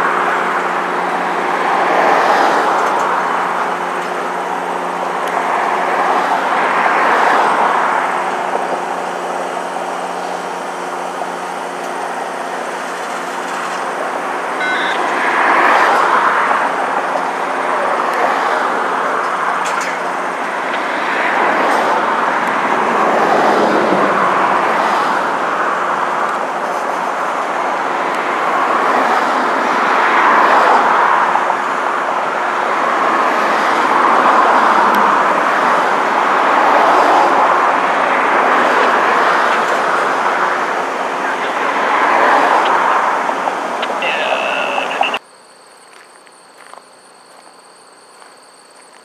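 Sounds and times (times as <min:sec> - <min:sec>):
train cars rolling on rails: 0:00.0 - 0:45.2.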